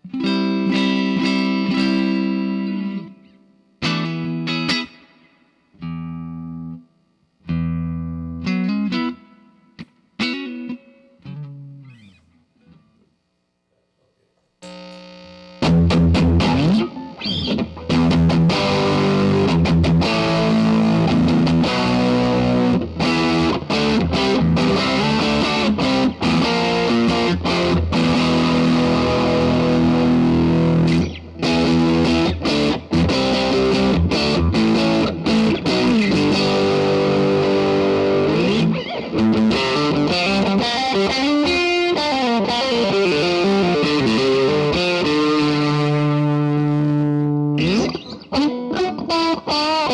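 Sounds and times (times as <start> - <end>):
distorted electric guitar chords: 0.0 - 6.8, 14.6 - 49.9.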